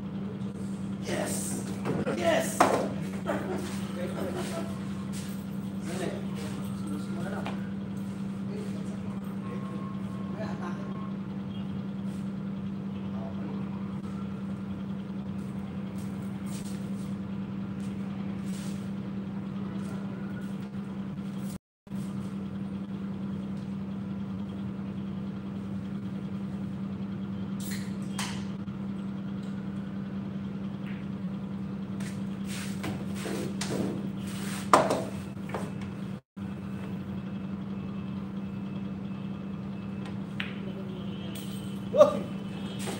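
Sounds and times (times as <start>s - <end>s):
low machine hum: 0.0s - 42.9s.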